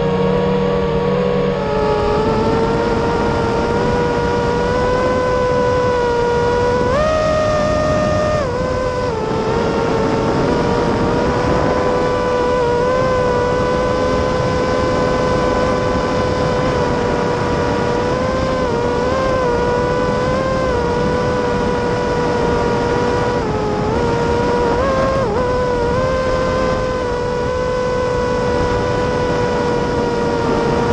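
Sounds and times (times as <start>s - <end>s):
model aircraft motor whining: 0.0s - 30.9s
wind noise: 0.0s - 30.9s.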